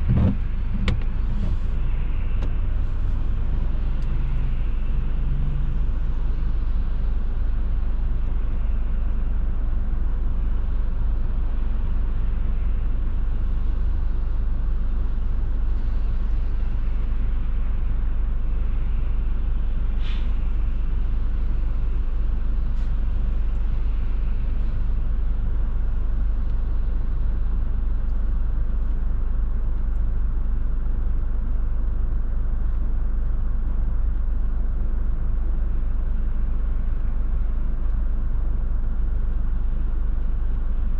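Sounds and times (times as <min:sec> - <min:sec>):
car driving interior drone: 0:00.0 - 0:40.9.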